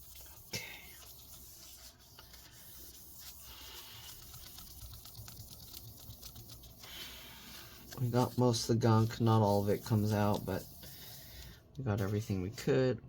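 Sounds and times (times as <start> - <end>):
paper towel wiping a screen: 0.0 - 12.7.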